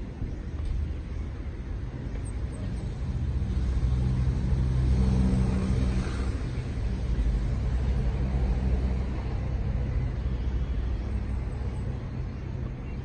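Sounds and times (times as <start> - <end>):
steady low rumble: 0.0 - 13.0
vehicle engine humming: 0.0 - 13.0.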